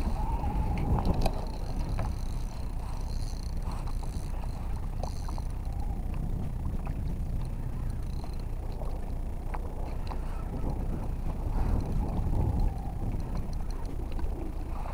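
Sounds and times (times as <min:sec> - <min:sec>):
light clicks against hull: 0:00.0 - 0:14.9
wind rumble on microphone: 0:00.0 - 0:14.9.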